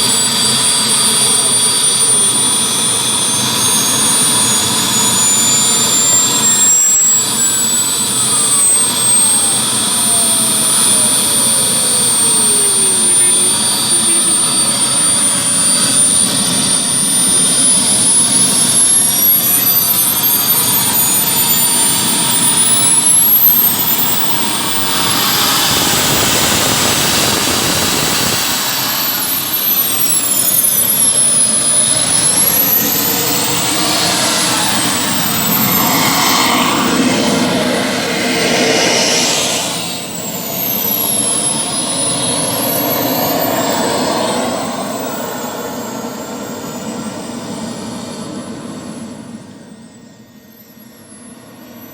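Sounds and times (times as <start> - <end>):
model jet turbines roaring: 0.0 - 51.9.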